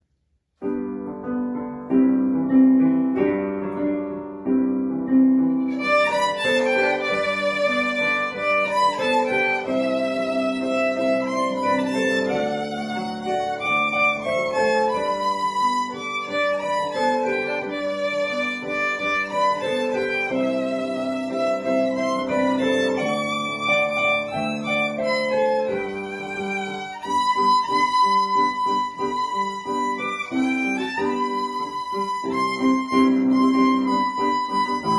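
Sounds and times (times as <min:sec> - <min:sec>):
piano accompaniment: 0:00.6 - 0:34.9
violin playing long notes: 0:05.6 - 0:34.9.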